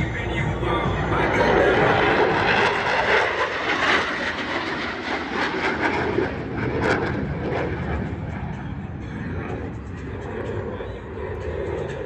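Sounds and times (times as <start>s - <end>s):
jet rushing in flight: 0.0s - 12.0s.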